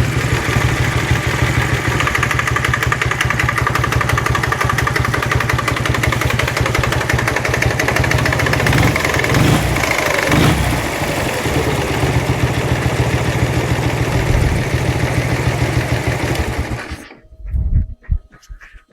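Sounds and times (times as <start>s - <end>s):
motorcycle engine knocking: 0.0s - 17.0s.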